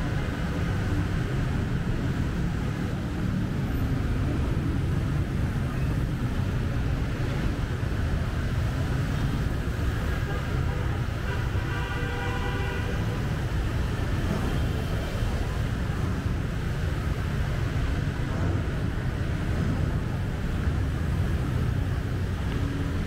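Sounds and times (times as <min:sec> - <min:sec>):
low rumble of street traffic: 0:00.0 - 0:23.0.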